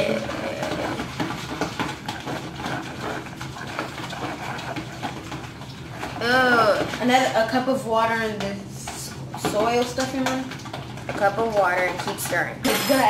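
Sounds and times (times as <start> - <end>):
utensils scraping plastic containers: 0.0 - 7.6, 8.3 - 13.0.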